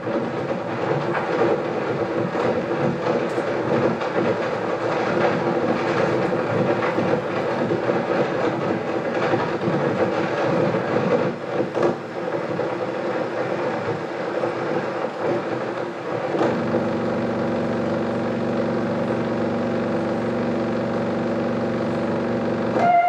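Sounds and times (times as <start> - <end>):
film soundtrack crackle and clicks: 0.0 - 23.0
projector droning hum: 0.0 - 23.0.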